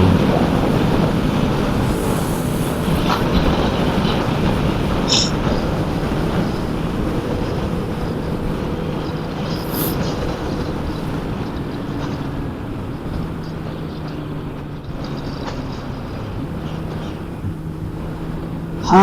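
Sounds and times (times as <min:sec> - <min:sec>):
faint motorcycle engine: 0:00.0 - 0:19.0
wind buffeting microphone: 0:00.0 - 0:19.0.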